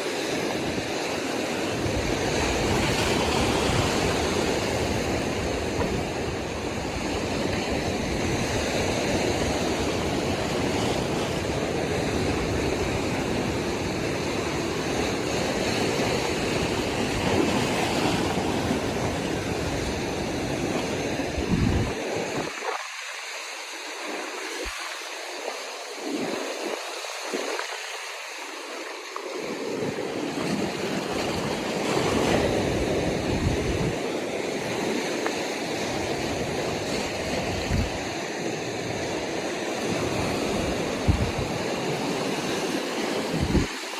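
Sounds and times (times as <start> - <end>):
wind buffeting microphone: 0.0 - 28.1, 29.0 - 43.9
ocean surf washing ashore: 0.0 - 43.9.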